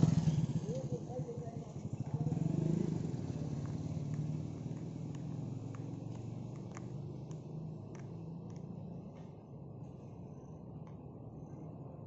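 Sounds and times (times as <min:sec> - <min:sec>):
passing vehicle engine hum: 0:00.0 - 0:10.7.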